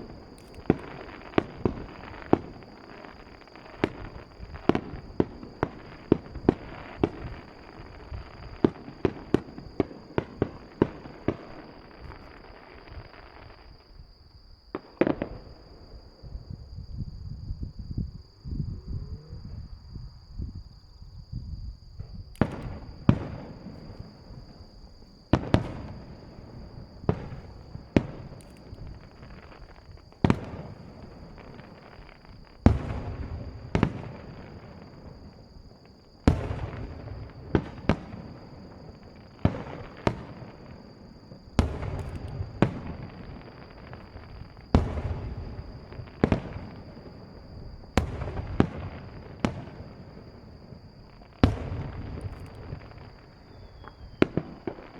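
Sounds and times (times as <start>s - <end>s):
distant firework booms echoing: 0.0s - 13.2s, 21.5s - 54.9s.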